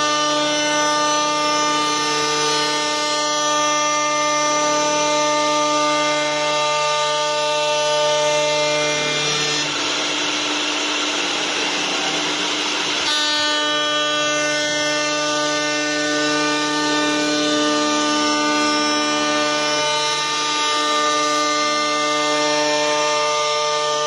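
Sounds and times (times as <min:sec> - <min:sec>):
lathe motors whining: 0:00.0 - 0:24.0.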